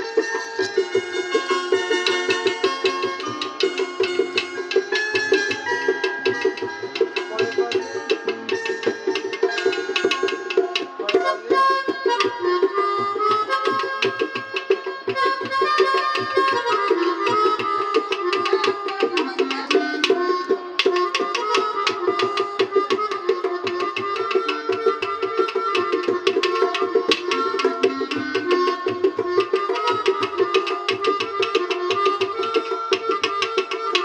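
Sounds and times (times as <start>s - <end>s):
instrumental ringtone music: 0.0s - 34.0s.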